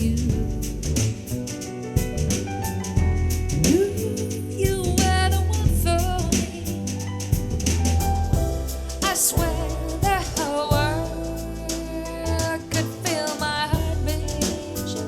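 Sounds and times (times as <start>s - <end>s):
soul-jazz song: 0.0s - 15.0s.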